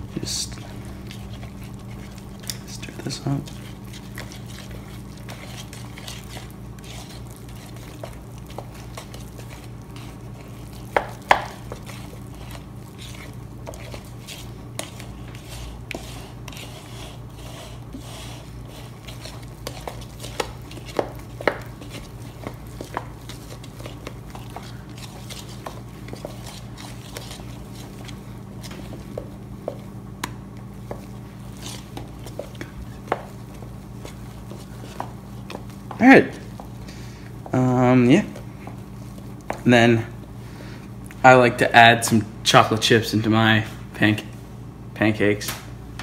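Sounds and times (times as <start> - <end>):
low hum: 0.0 - 41.2
spoon stirring batter: 0.2 - 40.1.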